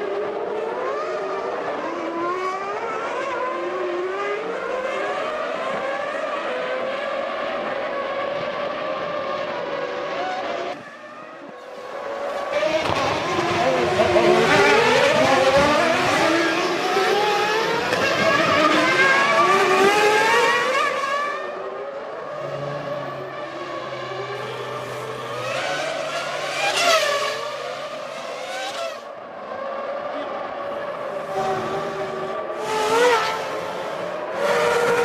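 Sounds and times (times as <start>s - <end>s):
racing car engines revving: 0.0s - 35.0s
racing car passing: 0.3s - 35.0s.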